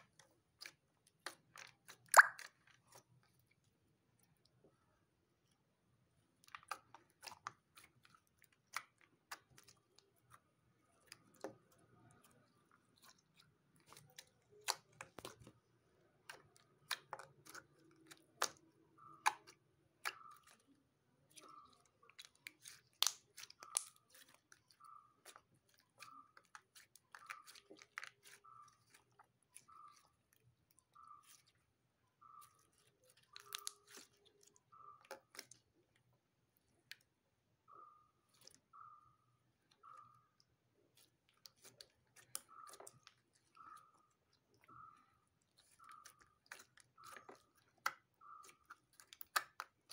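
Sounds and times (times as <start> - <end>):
slime squelching and popping: 0.0 - 4.6, 6.3 - 49.9.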